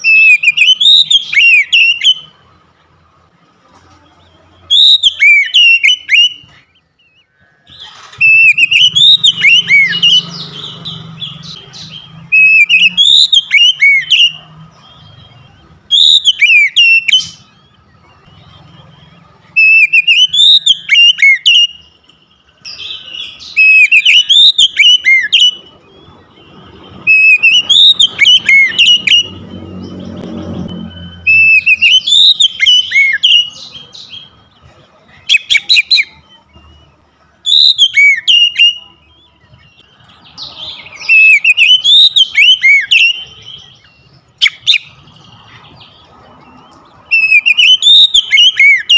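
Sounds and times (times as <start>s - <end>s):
bird singing whistled phrases: 0.0s - 2.4s, 4.2s - 48.9s.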